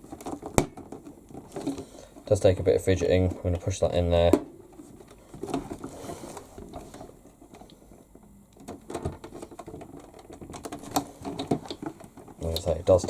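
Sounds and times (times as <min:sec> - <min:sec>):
plastic parts clicking and knocking: 0:00.0 - 0:13.0.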